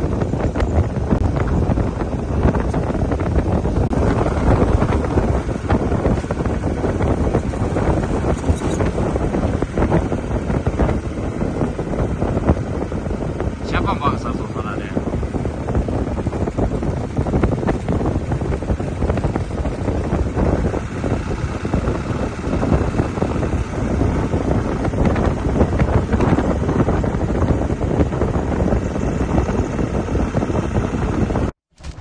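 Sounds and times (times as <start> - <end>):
road and vehicle noise: 0.0 - 32.0
wind rushing over microphone: 0.0 - 32.0.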